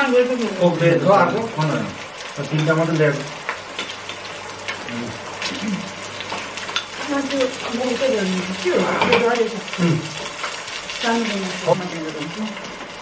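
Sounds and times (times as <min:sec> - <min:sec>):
simmering pot hiss: 0:00.0 - 0:13.0.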